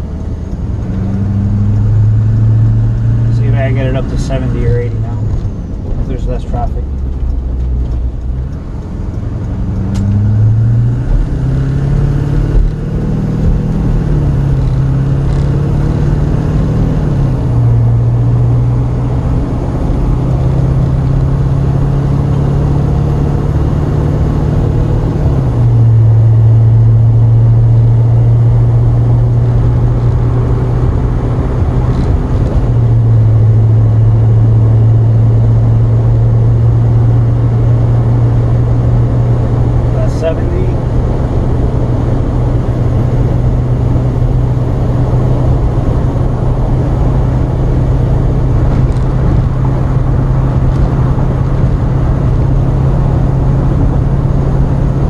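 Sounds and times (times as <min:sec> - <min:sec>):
diesel truck engine accelerating: 0:00.0 - 0:55.0.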